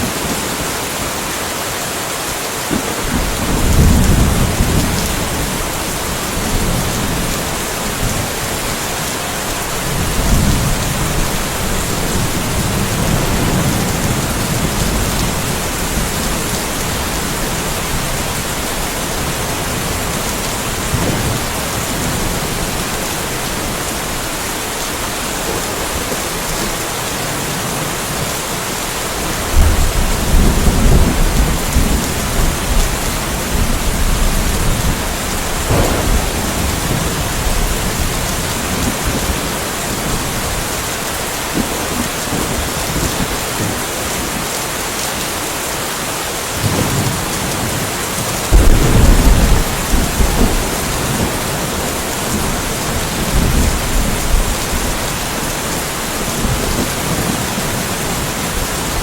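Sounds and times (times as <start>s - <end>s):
steady rain: 0.0s - 59.0s
thunder rumbling: 2.7s - 28.4s, 29.2s - 40.7s, 48.5s - 59.0s.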